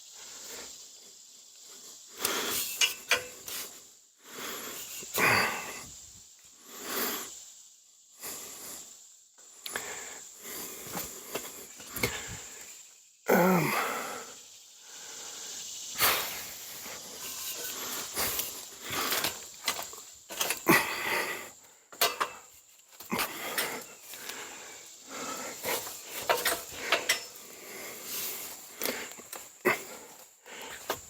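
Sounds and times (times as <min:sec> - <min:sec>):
man breathing hard: 0:01.6 - 0:07.5, 0:09.6 - 0:22.5, 0:23.1 - 0:31.0.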